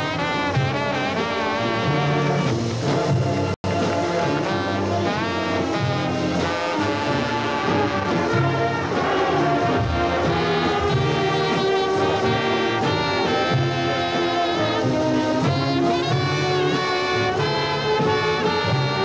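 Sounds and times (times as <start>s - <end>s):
brass solos: 0.0s - 19.0s
marching band playing jazz: 0.0s - 19.0s.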